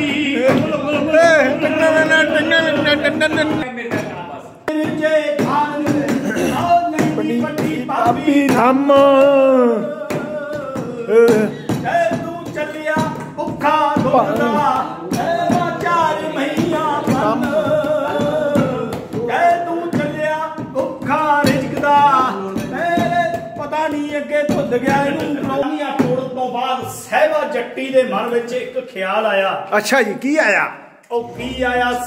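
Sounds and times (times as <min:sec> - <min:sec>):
man singing unaccompanied: 0:00.0 - 0:28.3.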